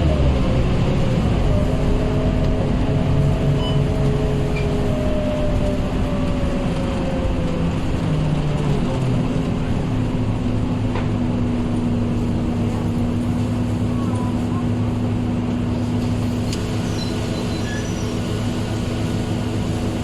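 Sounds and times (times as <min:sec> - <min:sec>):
bus diesel engine rumble: 0:00.0 - 0:20.0.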